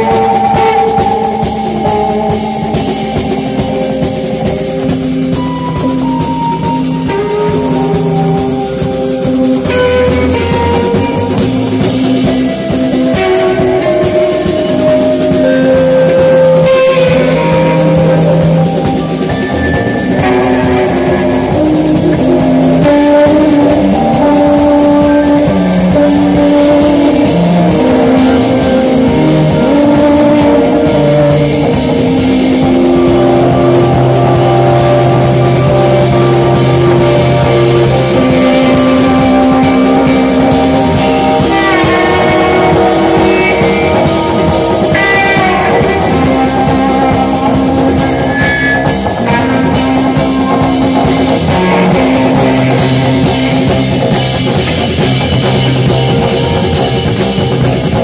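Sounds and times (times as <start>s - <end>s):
drum kit played busily: 0.0s - 58.0s
electric bass: 0.0s - 58.0s
electric guitar sliding notes: 0.0s - 58.0s.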